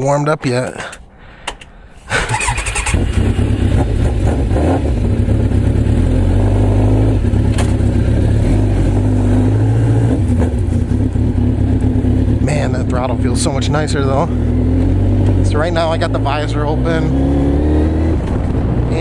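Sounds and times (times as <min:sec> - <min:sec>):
motorcycle engine running: 0:02.3 - 0:19.0.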